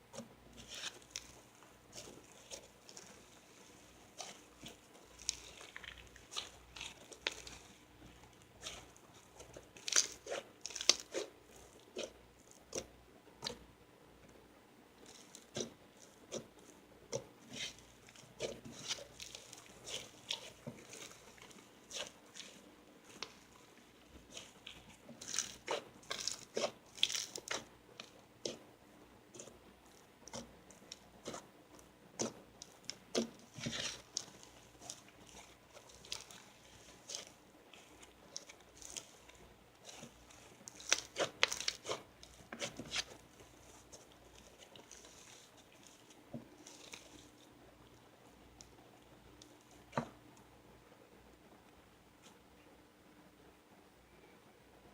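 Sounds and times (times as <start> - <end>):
slime crackling and popping: 0.1 - 13.6, 15.0 - 28.7, 29.3 - 47.3.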